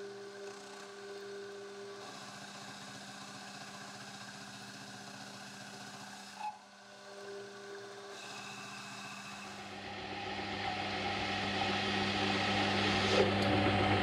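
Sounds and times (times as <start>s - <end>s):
metal lathe motor hum: 0.0s - 14.0s.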